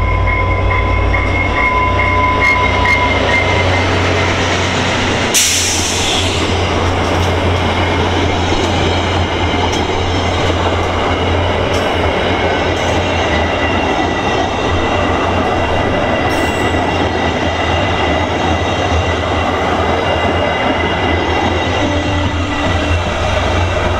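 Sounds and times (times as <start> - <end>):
rail joint clicks: 0.0 - 23.9
train wheels rushing on rails: 0.0 - 23.9.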